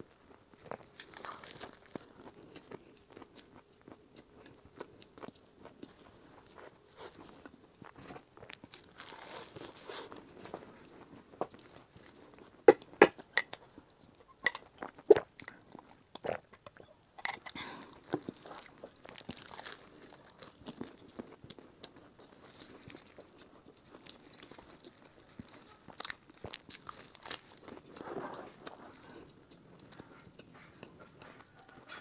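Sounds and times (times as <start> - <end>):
crunching and chewing pastry: 0.0 - 32.0.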